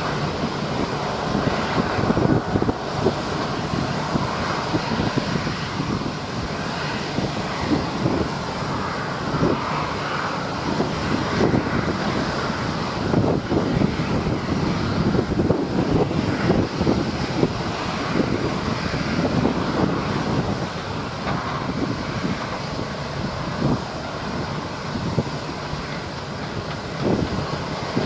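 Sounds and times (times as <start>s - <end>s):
jet engines whining: 0.0s - 28.0s
wind buffeting microphone: 0.0s - 28.0s.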